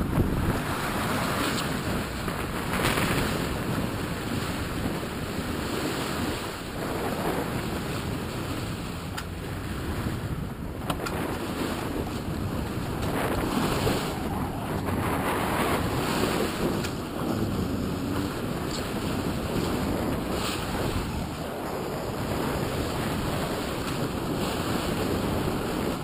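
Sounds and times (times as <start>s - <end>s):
sea water rushing along hull: 0.0s - 26.0s
wind buffeting microphone: 0.0s - 26.0s.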